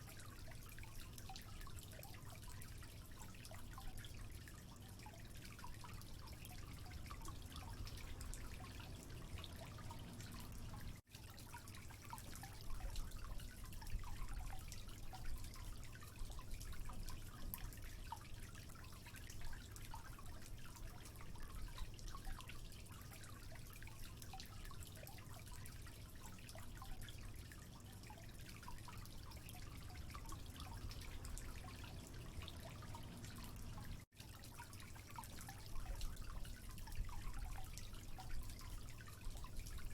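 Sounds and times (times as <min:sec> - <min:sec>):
water dripping and trickling: 0:00.0 - 0:39.9.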